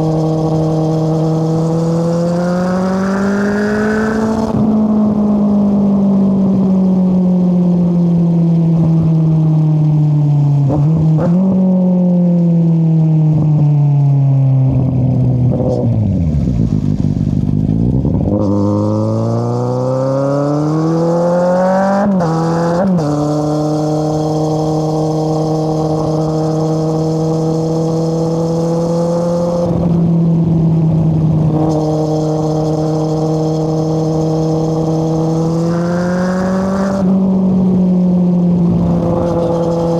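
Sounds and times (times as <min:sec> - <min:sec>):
motorcycle engine revving: 0:00.0 - 0:07.3, 0:14.7 - 0:39.9.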